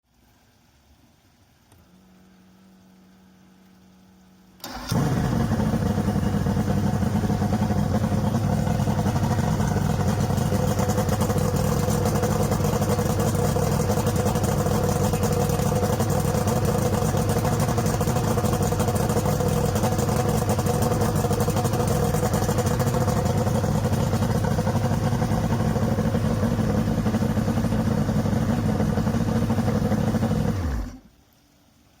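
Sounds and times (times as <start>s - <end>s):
outboard motor running: 4.6s - 31.1s.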